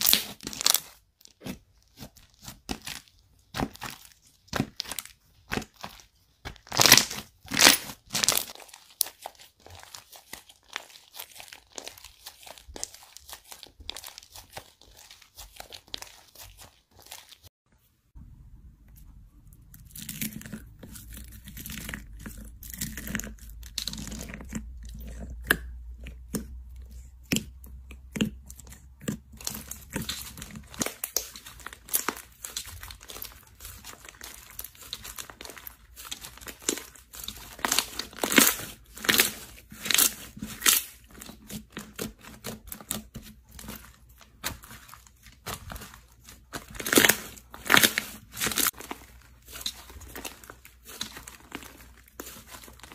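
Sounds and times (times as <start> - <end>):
slime crackling and popping: 0.0 - 17.5, 19.6 - 52.9.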